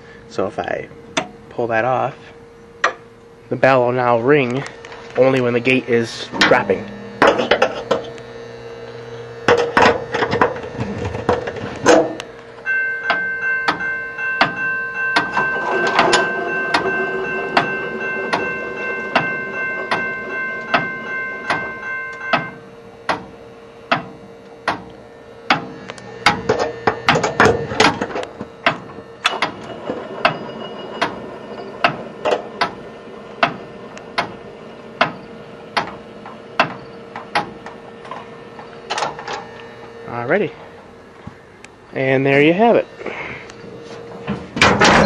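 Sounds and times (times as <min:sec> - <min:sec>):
steady hum: 0:00.0 - 0:45.0
crossing bell ringing: 0:00.1 - 0:45.0.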